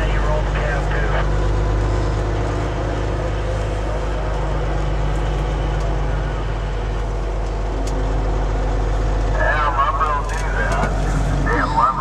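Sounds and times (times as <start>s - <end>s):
diesel engine droning: 0.0s - 12.0s
road noise: 0.0s - 12.0s.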